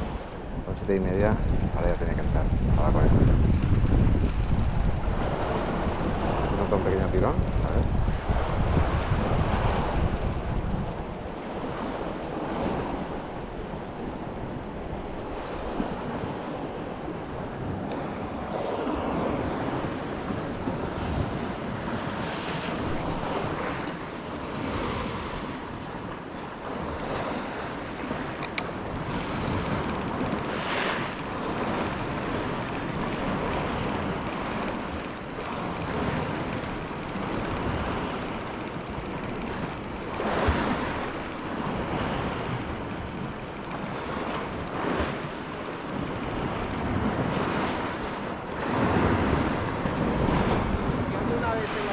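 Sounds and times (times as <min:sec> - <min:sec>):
sea washing against shore: 0:00.0 - 0:51.9
wind on microphone: 0:00.0 - 0:51.9.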